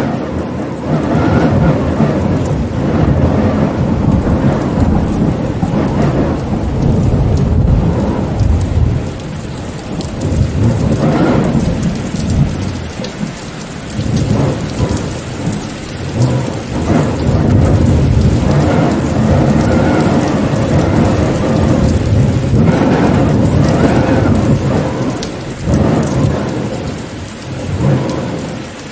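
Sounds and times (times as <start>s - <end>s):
rolling thunder rumbling: 0.0s - 28.9s
steady rain: 0.0s - 28.9s.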